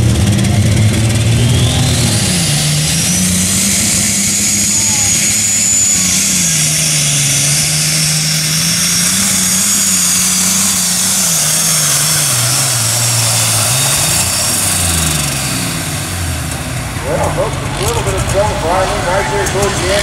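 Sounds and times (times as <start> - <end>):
tractor engine running under load: 0.0 - 20.0.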